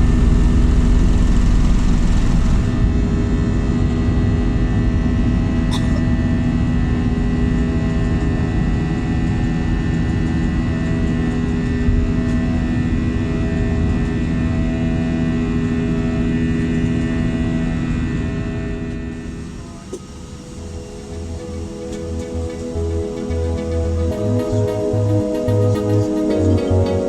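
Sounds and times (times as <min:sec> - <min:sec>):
airliner cabin engine drone: 0:00.0 - 0:27.0.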